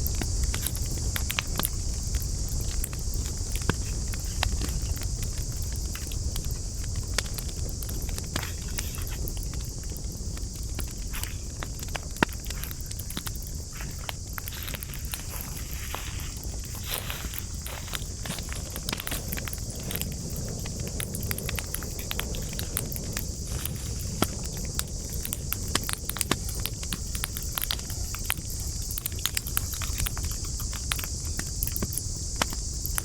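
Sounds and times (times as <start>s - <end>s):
campfire crackling and popping: 0.0s - 33.0s
low rumble of burning: 0.0s - 33.0s
steady high hiss: 0.0s - 33.0s.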